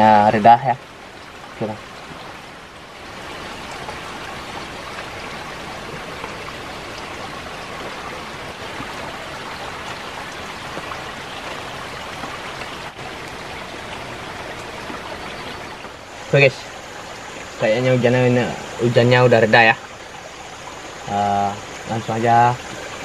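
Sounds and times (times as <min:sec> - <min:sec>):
rain falling on leaves: 0:00.0 - 0:23.0.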